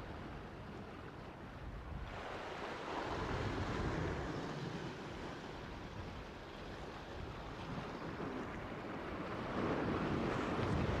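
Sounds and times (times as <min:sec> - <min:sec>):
wind on microphone: 0:01.5 - 0:11.0.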